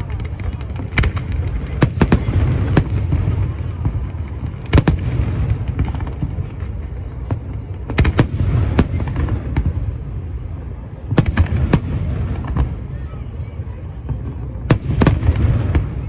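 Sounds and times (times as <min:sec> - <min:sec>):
low rumble of firework bursts: 0:00.0 - 0:16.0.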